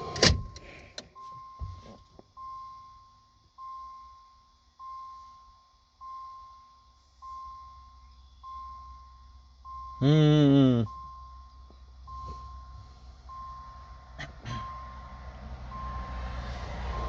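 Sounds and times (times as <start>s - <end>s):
dashboard warning chime: 0.0s - 17.0s.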